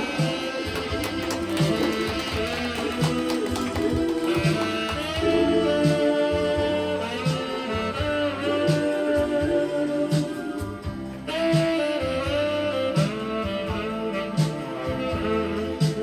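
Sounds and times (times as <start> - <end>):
karaoke ballad backing track: 0.0 - 16.0.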